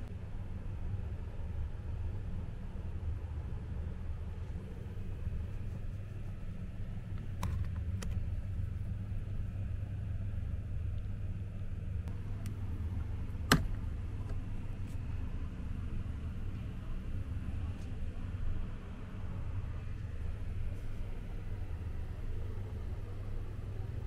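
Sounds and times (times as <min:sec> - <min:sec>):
low rumble in coach cabin: 0:00.0 - 0:24.0.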